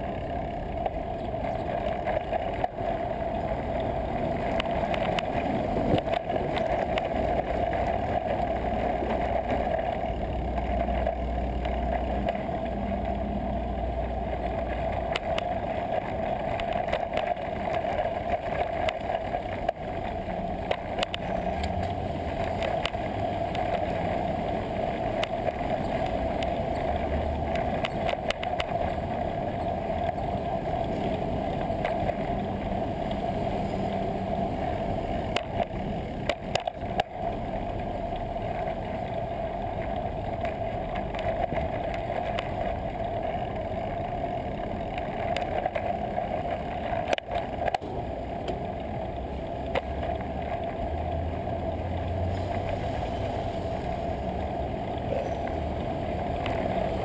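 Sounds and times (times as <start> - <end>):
low rumbles: 0.0 - 57.0
road noise: 0.0 - 57.0
wind noise: 0.0 - 57.0.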